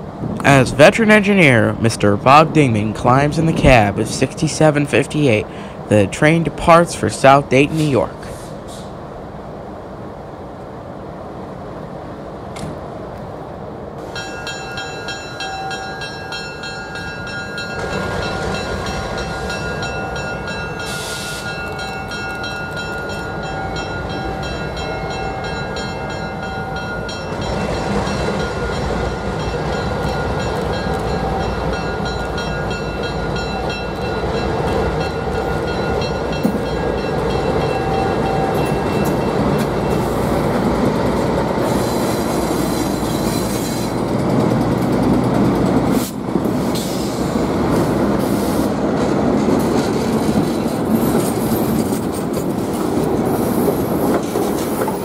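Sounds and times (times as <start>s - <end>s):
diesel locomotive engines rumbling: 0.0s - 55.0s.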